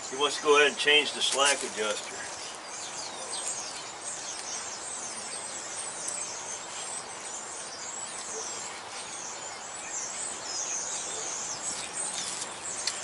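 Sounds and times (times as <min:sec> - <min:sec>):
birds chirping: 0:00.0 - 0:13.0
steady outdoor hiss: 0:00.0 - 0:13.0.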